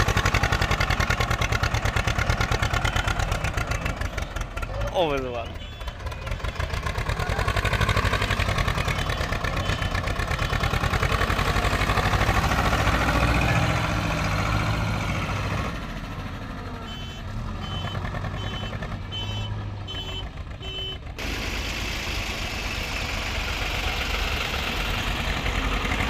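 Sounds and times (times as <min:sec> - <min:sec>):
diesel tractor engine running hard: 0:00.0 - 0:26.0.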